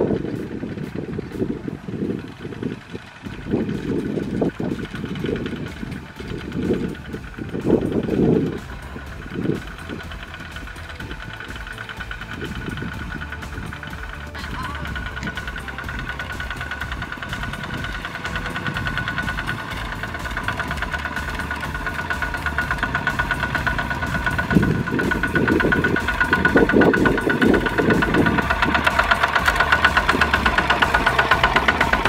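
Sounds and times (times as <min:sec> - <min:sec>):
diesel tractor engines chugging: 0:00.0 - 0:32.0
low rumbling: 0:00.0 - 0:32.0.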